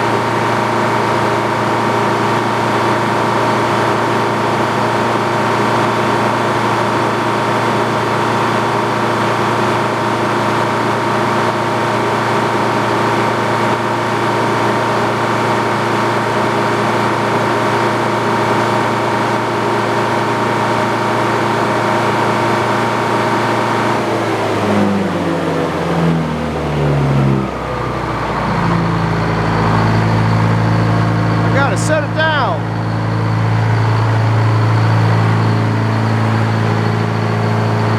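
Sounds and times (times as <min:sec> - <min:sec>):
sawmill power unit hum: 0:00.0 - 0:37.9.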